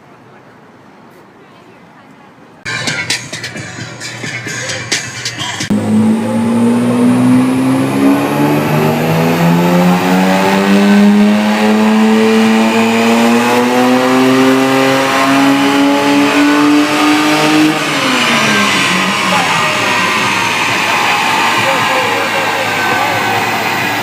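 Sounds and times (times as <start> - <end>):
car engine revving: 2.7 - 24.0.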